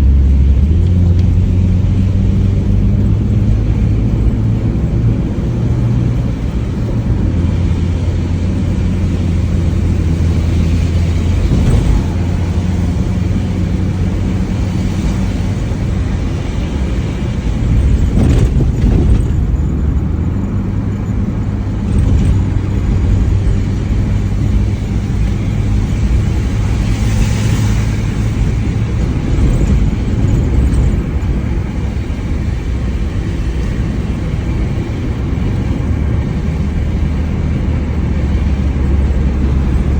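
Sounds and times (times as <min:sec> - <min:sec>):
car engine running: 0:00.0 - 0:39.9
road and tyre noise: 0:00.0 - 0:39.9.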